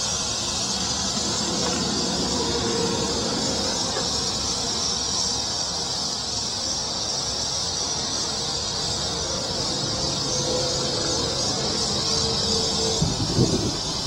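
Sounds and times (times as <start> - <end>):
insects chirring in grass: 0.0 - 14.0.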